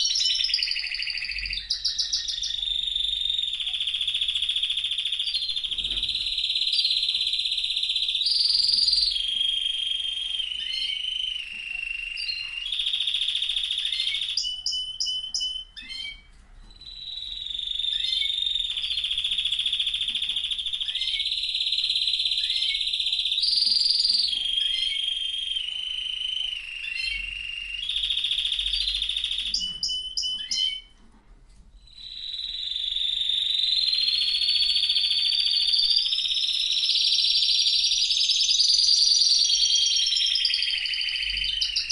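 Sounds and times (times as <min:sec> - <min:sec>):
canary singing trills: 0:00.0 - 0:31.0, 0:31.8 - 0:41.9.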